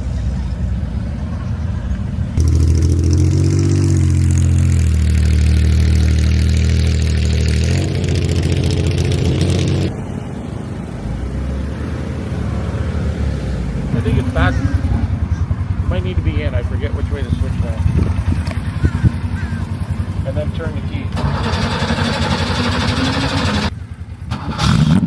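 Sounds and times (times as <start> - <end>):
car engine revving: 2.2 - 25.0.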